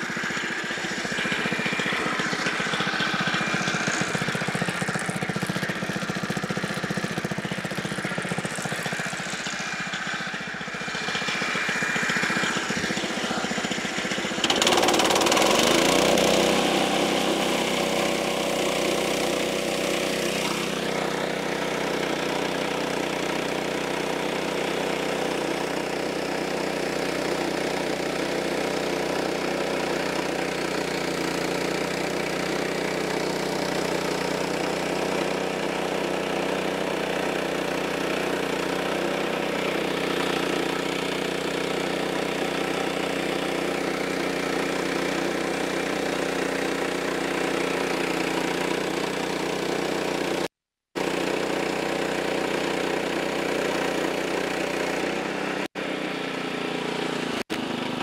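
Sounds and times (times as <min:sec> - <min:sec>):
band saw cutting wood: 0:00.0 - 0:58.0
small gasoline engine revving: 0:00.0 - 0:58.0.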